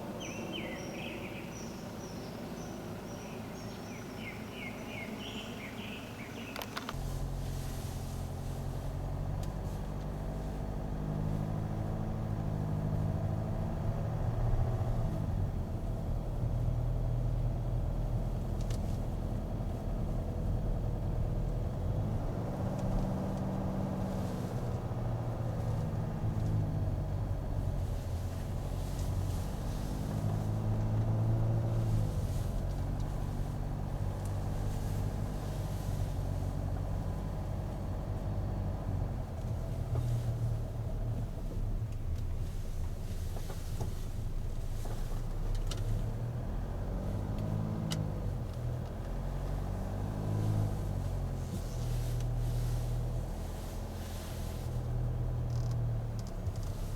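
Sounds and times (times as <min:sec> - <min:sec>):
car engine revving: 0:06.9 - 0:56.9.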